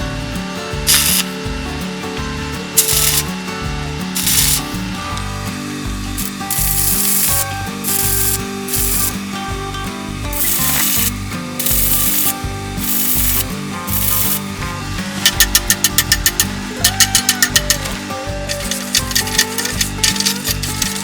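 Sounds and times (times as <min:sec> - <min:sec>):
background music with bass line: 0:00.0 - 0:21.0
abrasive rubbing strokes: 0:02.7 - 0:21.0.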